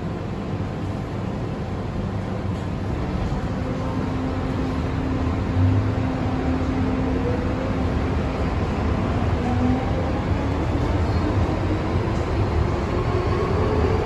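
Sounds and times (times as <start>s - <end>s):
train interior hum and rumble: 0.0s - 14.0s.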